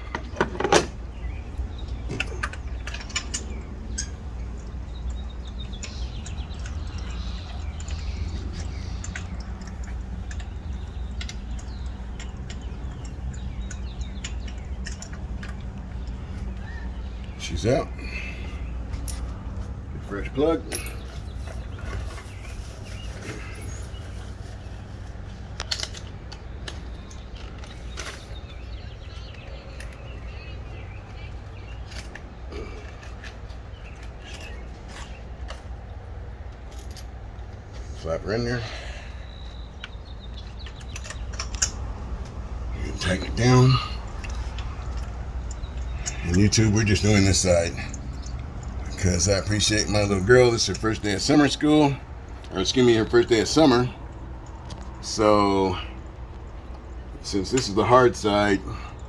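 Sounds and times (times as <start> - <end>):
low outdoor rumble: 0.0 - 59.0
steady low hum: 0.0 - 59.0.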